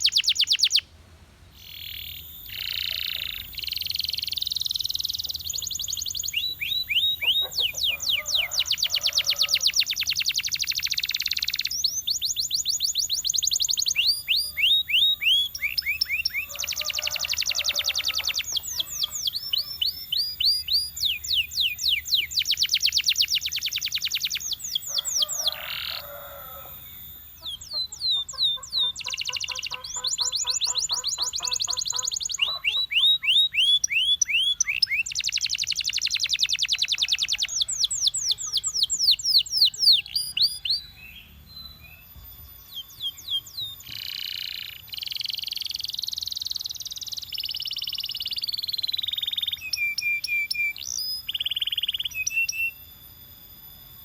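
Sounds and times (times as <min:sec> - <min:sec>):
canary singing trills: 0:00.0 - 0:00.9, 0:01.6 - 0:54.0.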